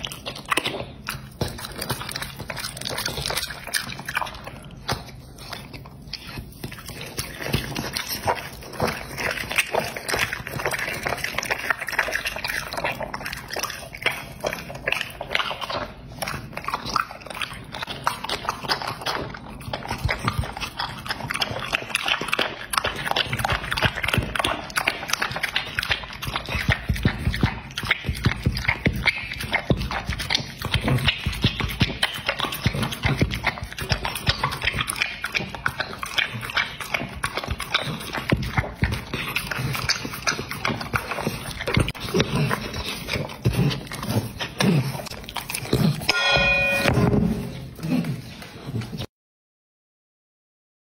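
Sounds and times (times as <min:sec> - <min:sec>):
dog lapping off metal plate: 0:00.0 - 0:05.4, 0:06.1 - 0:47.8
dog chewing meat: 0:00.0 - 0:49.1.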